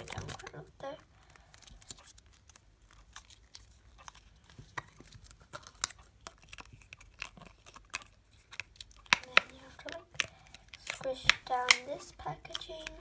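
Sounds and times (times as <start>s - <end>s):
plastic packaging crinkling: 1.3s - 13.0s.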